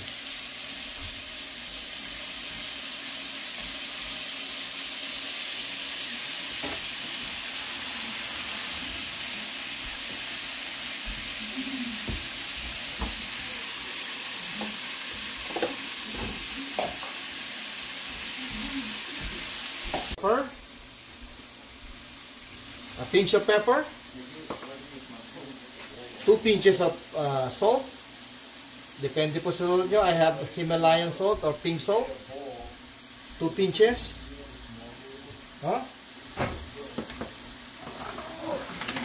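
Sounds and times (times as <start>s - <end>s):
meat sizzling in a pan: 0.0s - 39.0s.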